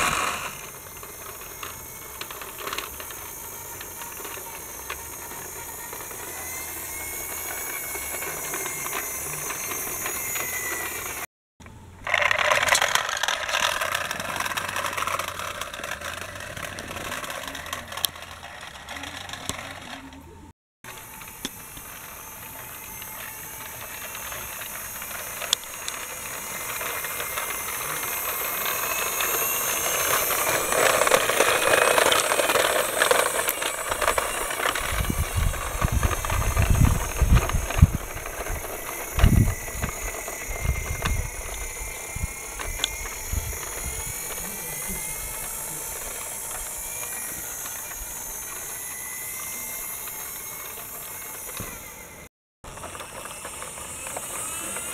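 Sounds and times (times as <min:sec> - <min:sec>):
toy bus whirring rattle: 0:00.0 - 0:54.9.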